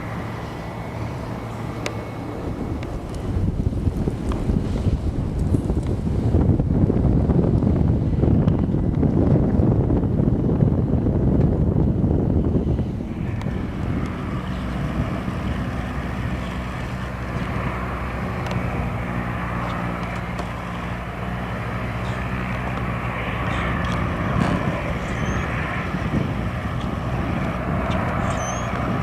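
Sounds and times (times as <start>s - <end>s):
airplane engine drone: 0.0s - 29.0s.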